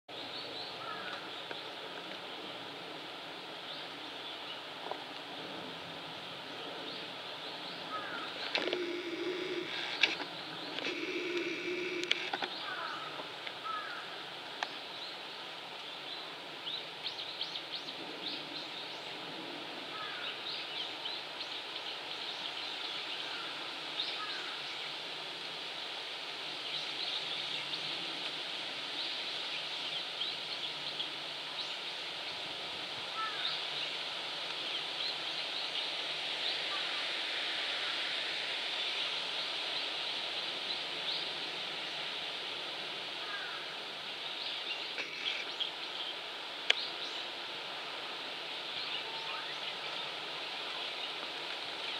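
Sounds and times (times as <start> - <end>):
steady hiss: 0.1 - 51.9.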